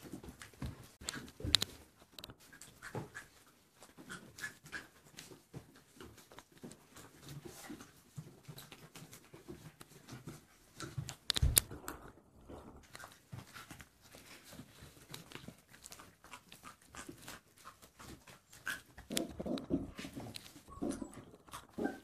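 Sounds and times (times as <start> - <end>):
puppies chewing meat: 0.0 - 22.0.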